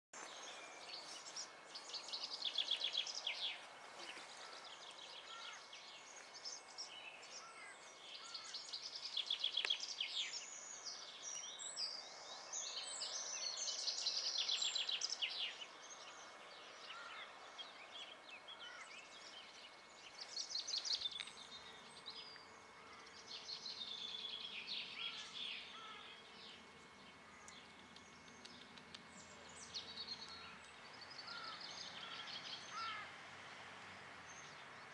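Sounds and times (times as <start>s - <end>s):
soft bird chirps: 0.2s - 33.1s
songbirds trilling: 0.2s - 34.9s.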